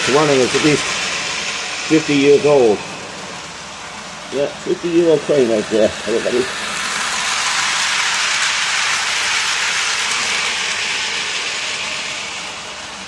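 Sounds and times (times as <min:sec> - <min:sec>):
toy train rattling on track: 0:00.0 - 0:13.0.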